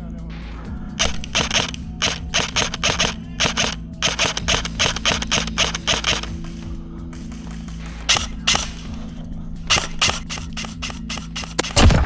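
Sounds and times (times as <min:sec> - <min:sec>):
airsoft rifle shots: 0:00.8 - 0:12.0.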